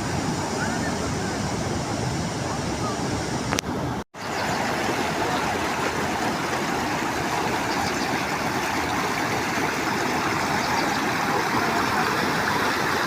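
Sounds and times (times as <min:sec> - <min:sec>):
water rushing at a dam: 0:00.0 - 0:13.0.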